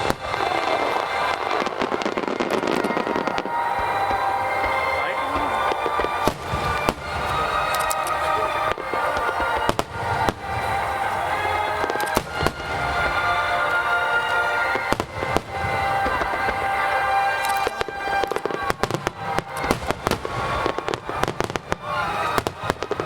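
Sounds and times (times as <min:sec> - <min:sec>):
firework shells booming: 0:00.0 - 0:23.0
orchestral music over loudspeakers: 0:00.0 - 0:23.0.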